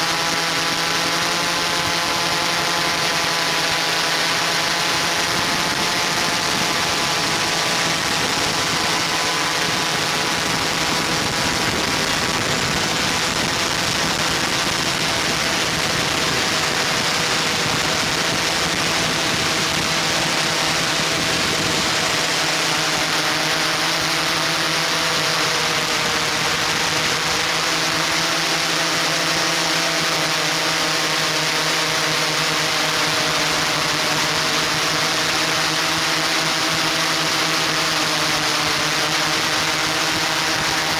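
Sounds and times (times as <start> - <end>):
drone motors and propellers whirring: 0.0 - 40.9.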